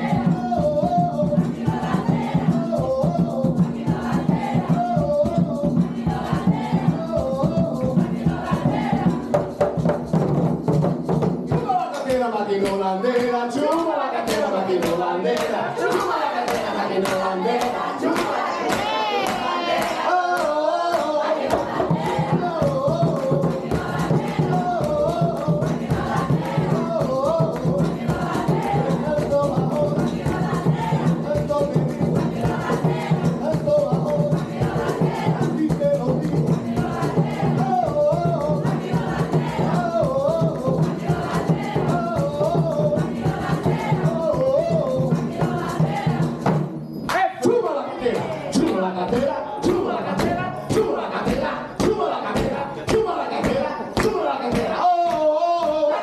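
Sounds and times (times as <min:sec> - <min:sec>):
hand drums fast rhythm: 0:00.0 - 0:56.0
people singing: 0:00.0 - 0:56.0.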